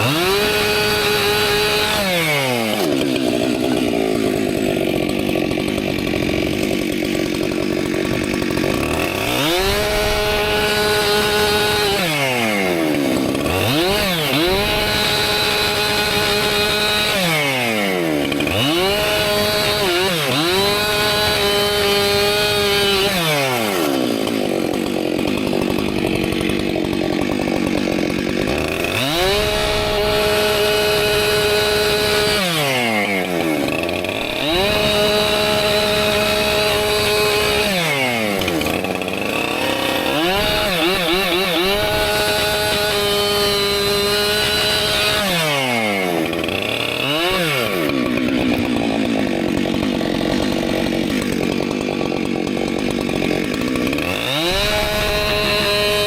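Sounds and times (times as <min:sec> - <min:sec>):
chainsaw cutting wood: 0:00.0 - 0:56.0
chainsaw engine revving: 0:00.0 - 0:56.0.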